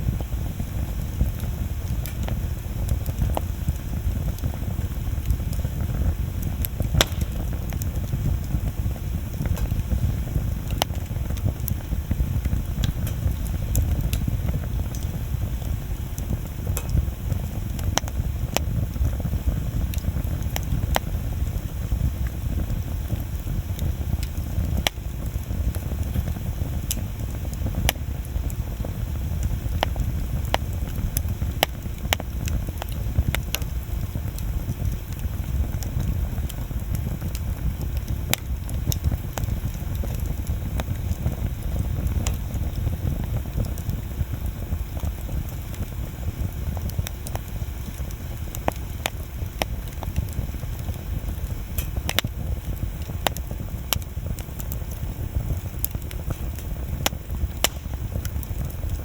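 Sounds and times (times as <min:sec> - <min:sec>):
bonfire crackles and pops: 0:00.0 - 0:59.0
fire low rumble: 0:00.0 - 0:59.0.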